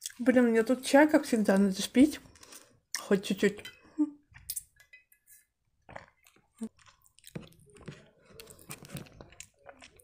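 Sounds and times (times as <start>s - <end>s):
soft chewing and swallowing: 1.5s - 10.0s.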